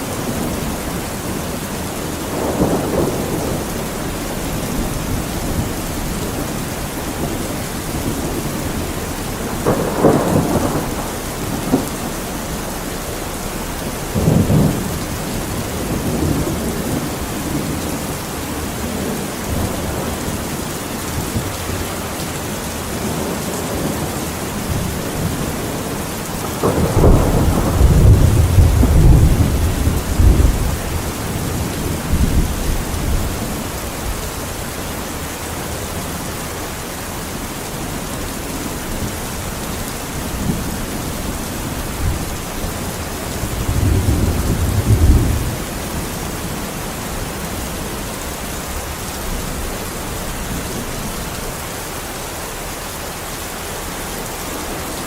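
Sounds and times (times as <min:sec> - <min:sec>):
rolling thunder: 0:00.0 - 0:34.6, 0:37.7 - 0:51.4
steady rain: 0:00.0 - 0:55.0.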